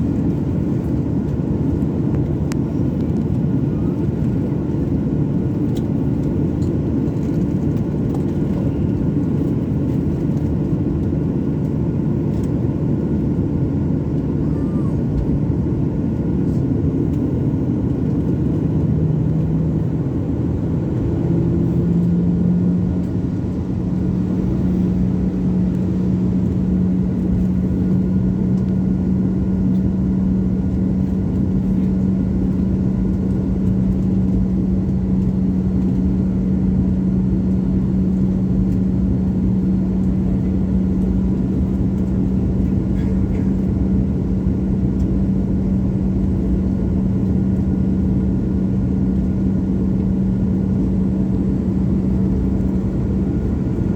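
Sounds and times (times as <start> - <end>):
jet engines rumbling: 0.0 - 53.9
low engine hum: 0.0 - 53.9.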